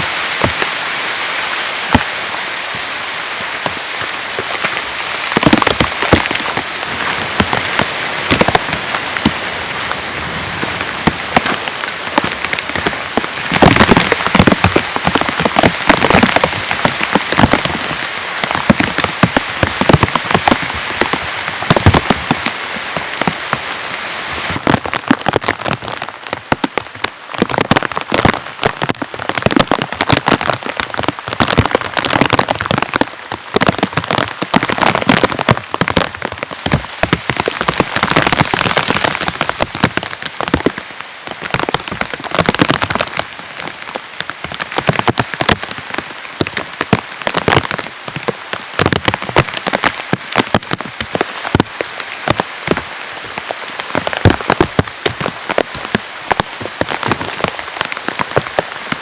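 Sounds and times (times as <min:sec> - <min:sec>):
heavy rain falling: 0:00.0 - 0:59.0
loud raindrop impacts: 0:01.8 - 0:23.7, 0:24.4 - 0:59.0.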